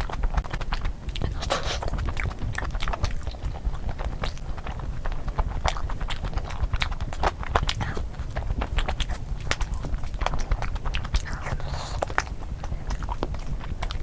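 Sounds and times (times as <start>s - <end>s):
chewing and mouth smacking: 0.0s - 14.0s.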